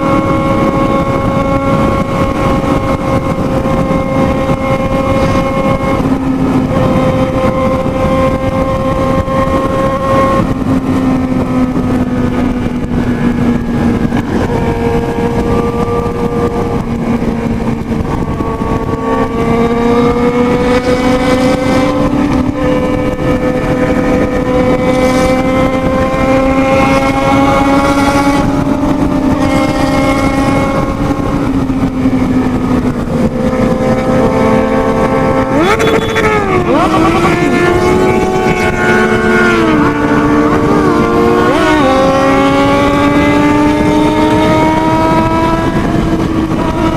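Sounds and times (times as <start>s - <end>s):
motorcycle engine revving high: 0.0s - 46.9s.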